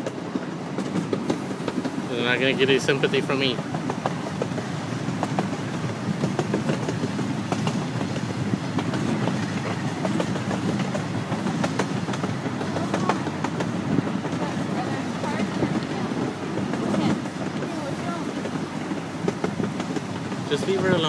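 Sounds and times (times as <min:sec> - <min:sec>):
ride train rumbling on track: 0:00.0 - 0:21.0
wheels clicking and knocking: 0:00.0 - 0:21.0.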